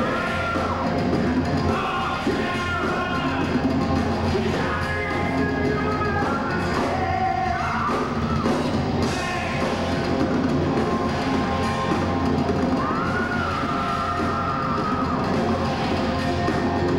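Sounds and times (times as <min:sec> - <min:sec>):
heavy metal band playing live: 0:00.0 - 0:16.9.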